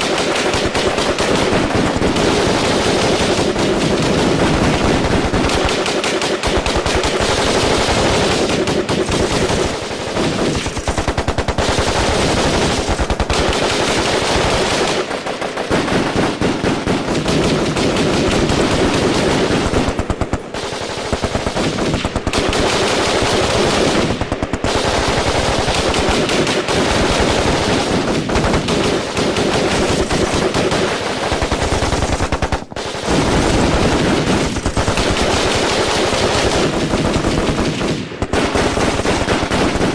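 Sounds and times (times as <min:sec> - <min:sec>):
automatic gunfire: 0:00.0 - 0:39.9.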